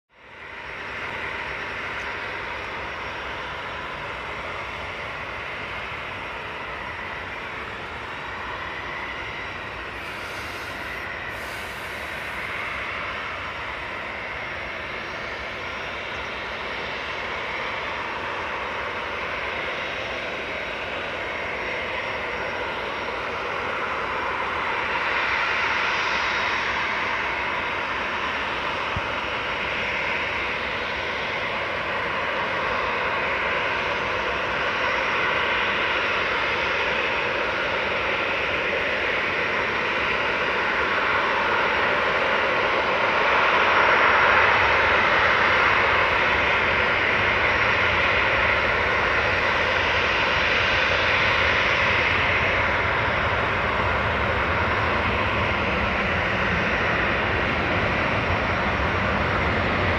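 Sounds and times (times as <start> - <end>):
jet engines rushing: 0.2 - 59.9.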